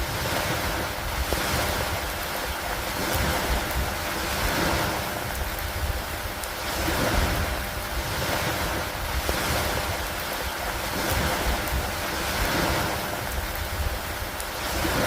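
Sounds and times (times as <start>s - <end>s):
steady rain: 0.0s - 15.0s
wind: 0.0s - 15.0s.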